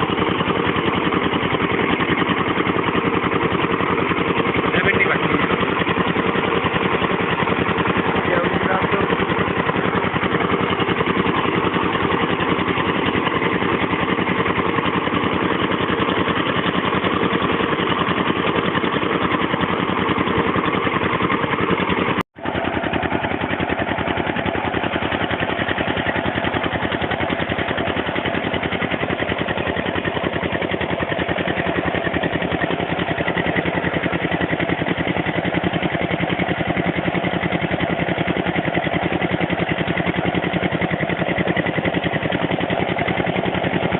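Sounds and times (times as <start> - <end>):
diesel pump engine running: 0.0 - 43.9.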